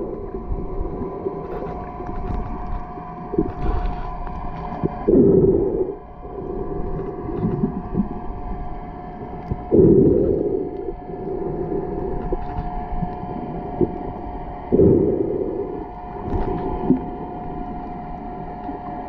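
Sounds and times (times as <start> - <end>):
faint steady hum: 0.0 - 19.0
muffled underwater rumble: 0.0 - 19.0.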